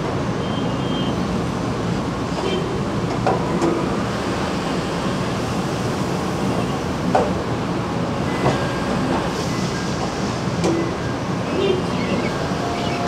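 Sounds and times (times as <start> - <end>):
conveyor machinery humming: 0.0 - 13.0.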